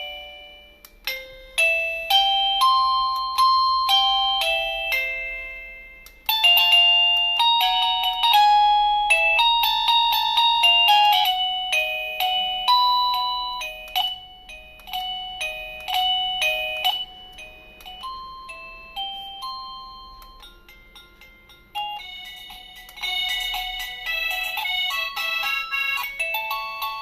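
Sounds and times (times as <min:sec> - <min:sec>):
doorbell chime melodies: 0:00.0 - 0:27.0.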